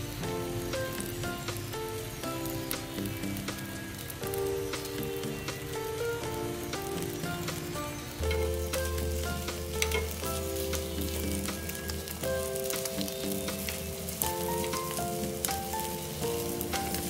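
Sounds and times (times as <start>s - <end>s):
background music: 0.0s - 17.0s
oil sizzling and crackling: 0.0s - 17.0s.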